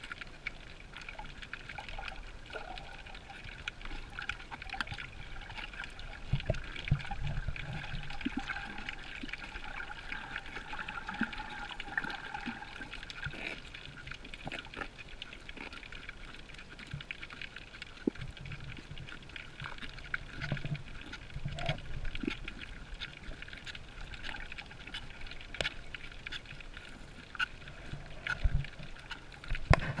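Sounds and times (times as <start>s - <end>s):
muffled underwater hiss: 0.0s - 30.0s
sharp clicks and crackles: 0.0s - 30.0s.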